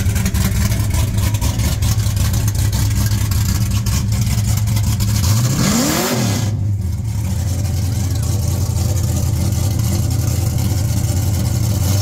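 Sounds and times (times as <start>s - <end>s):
truck engine idling loudly: 0.0s - 5.4s, 6.5s - 12.0s.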